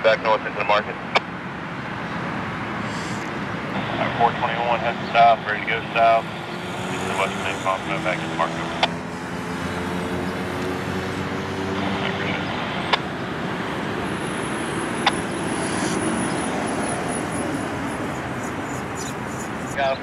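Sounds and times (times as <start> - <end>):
road traffic rumble and hiss: 0.0 - 20.0
low engine hum: 3.6 - 19.8.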